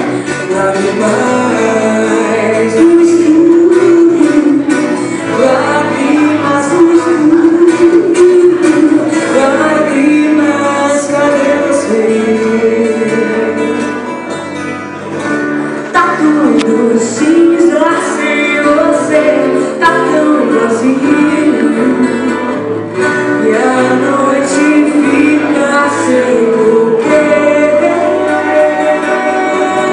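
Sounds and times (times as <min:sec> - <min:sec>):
woman singing into microphone: 0:00.0 - 0:14.0, 0:15.8 - 0:29.9
strummed acoustic guitars: 0:00.0 - 0:29.9.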